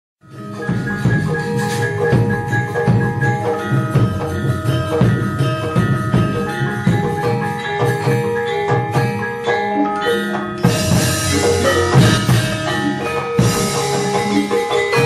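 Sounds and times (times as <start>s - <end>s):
struck metallophones ringing: 0.2s - 15.0s.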